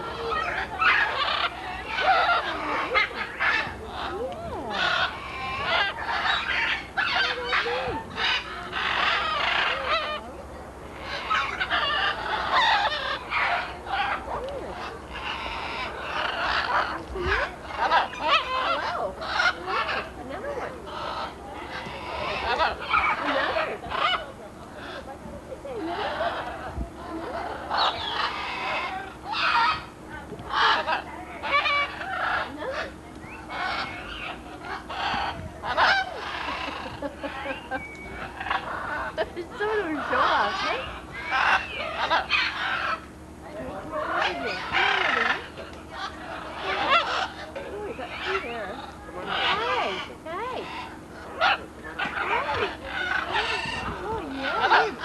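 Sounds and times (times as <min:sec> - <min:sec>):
parrots squawking: 0:00.0 - 0:55.0.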